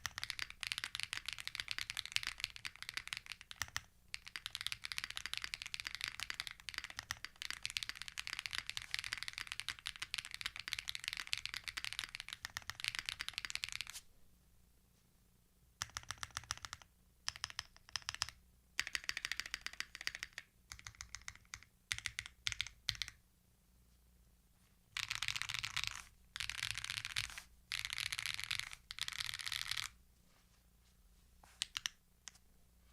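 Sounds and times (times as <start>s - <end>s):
mechanical keyboard typing: 0.0s - 13.9s, 15.8s - 23.2s, 25.0s - 30.0s, 31.6s - 32.0s.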